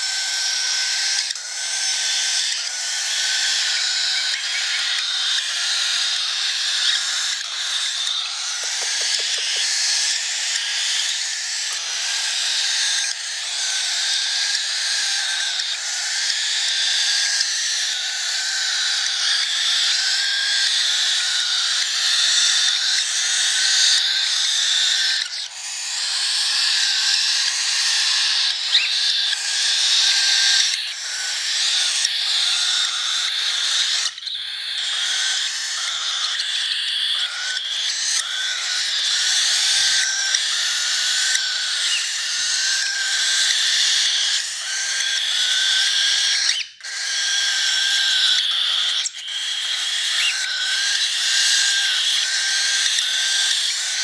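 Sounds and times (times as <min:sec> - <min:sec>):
cockatiel begging call: 0:00.0 - 0:54.0.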